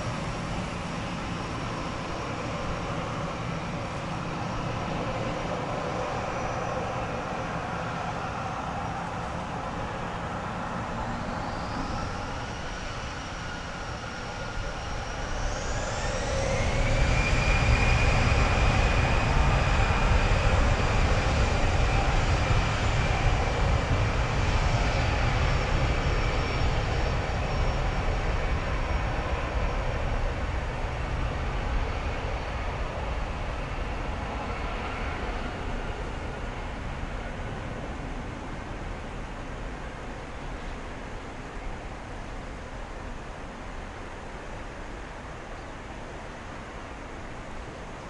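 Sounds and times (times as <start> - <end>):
jet engines whining: 0.0 - 39.2.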